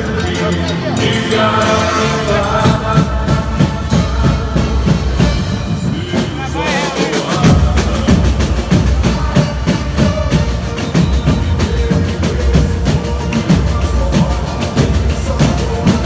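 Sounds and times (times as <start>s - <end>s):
drums and percussion beat: 0.0s - 16.0s
keyboard: 0.0s - 16.0s
people singing: 0.0s - 16.0s.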